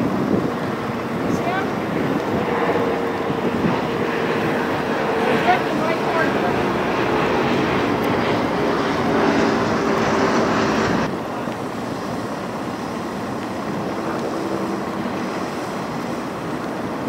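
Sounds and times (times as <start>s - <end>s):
faint engine hum: 0.0s - 17.0s
outdoor rumble and hiss: 0.0s - 17.0s.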